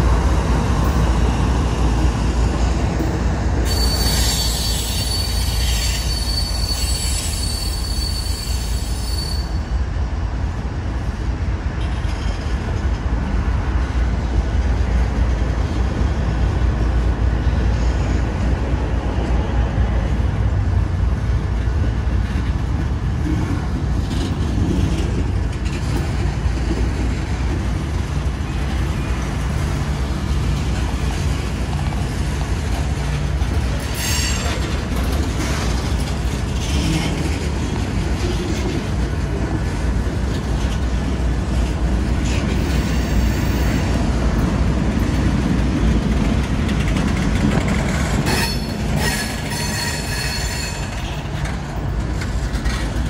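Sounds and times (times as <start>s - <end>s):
freight train rolling rumble: 0.0s - 53.0s.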